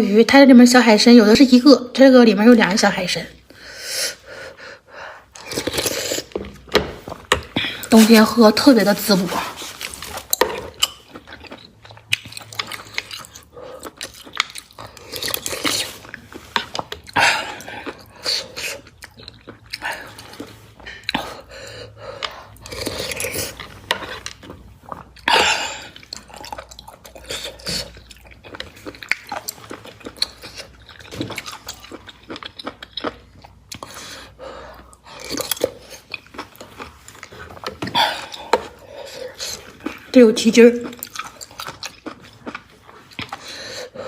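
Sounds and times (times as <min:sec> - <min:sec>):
chewing soft food: 0:08.6 - 0:44.0.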